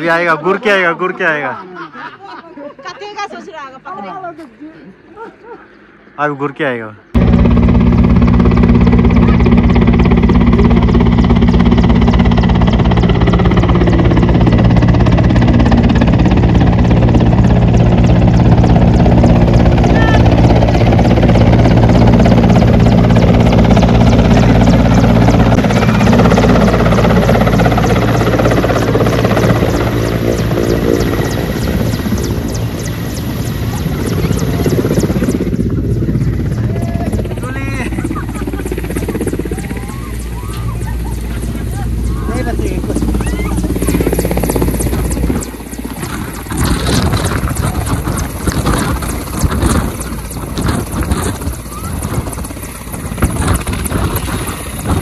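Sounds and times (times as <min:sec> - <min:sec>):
helicopter engine drone: 0:07.0 - 0:55.0
helicopter rotor beating: 0:07.0 - 0:55.0.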